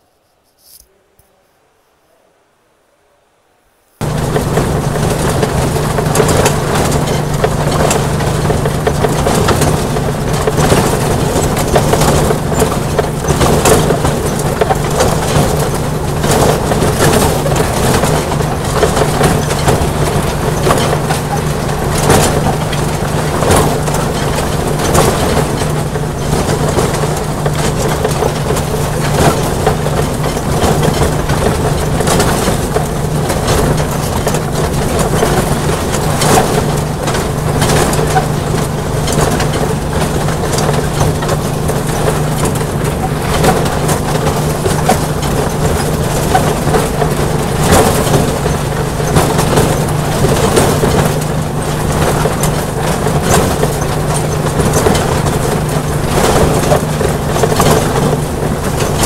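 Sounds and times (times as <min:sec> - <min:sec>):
miniature train running on track: 0:04.0 - 0:59.0.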